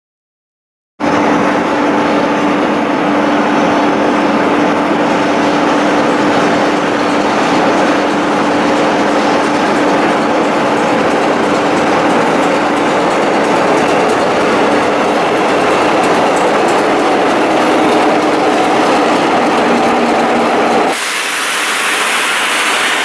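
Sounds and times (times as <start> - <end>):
train rolling on track: 1.0 - 23.0
steady hum: 1.1 - 21.0.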